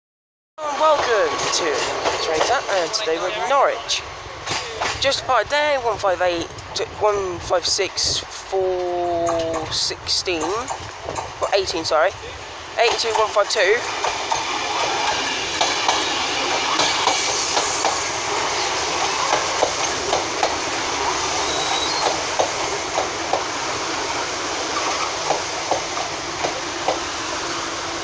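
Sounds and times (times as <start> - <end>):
train rushing noise: 0.6 - 28.0
train wheels clicking over rail joints: 0.7 - 3.0, 4.4 - 5.8, 8.6 - 12.2, 12.8 - 28.0.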